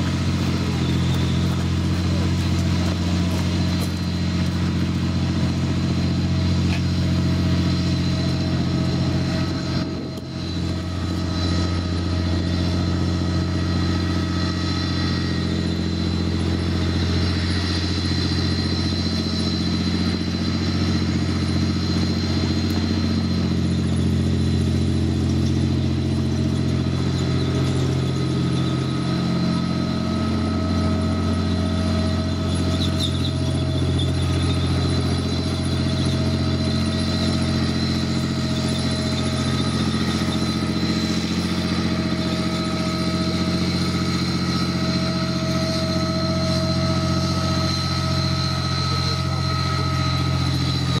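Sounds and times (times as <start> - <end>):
diesel engine running: 0.0 - 51.0
high-pitched whines: 0.0 - 51.0.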